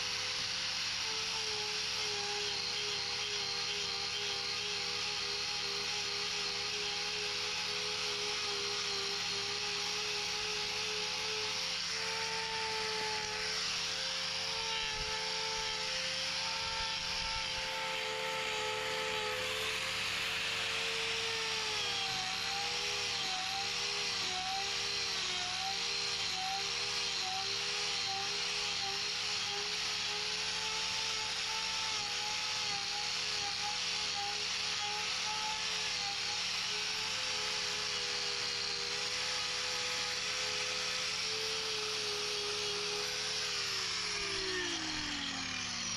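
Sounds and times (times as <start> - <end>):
angle grinder cutting hoof: 0.0 - 45.9.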